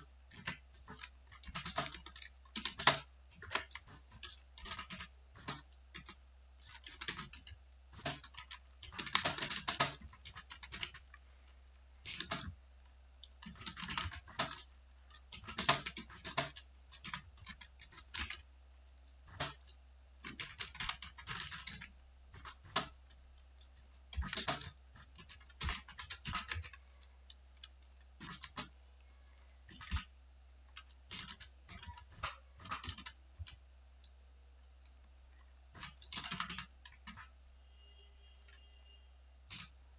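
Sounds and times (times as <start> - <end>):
keyboard typing: 0.0 - 37.4, 38.4 - 39.9.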